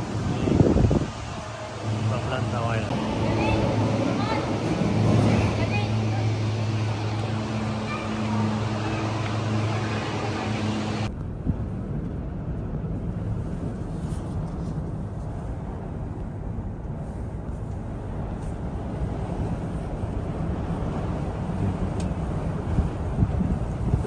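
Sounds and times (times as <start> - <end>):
wind rumble inside gondola: 0.0 - 24.0.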